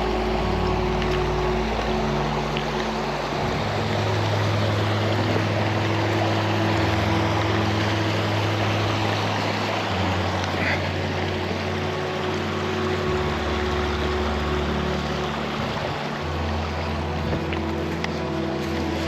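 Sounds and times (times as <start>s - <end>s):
low steady hum: 0.0s - 19.0s
waterfall rushing: 0.0s - 19.0s.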